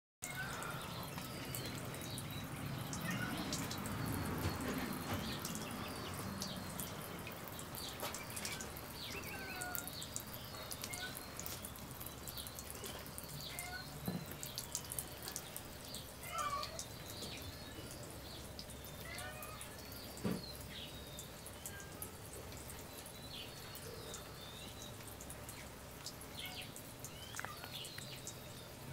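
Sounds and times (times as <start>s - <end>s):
water drips: 0.2s - 28.9s
water spraying and splashing: 0.2s - 28.9s.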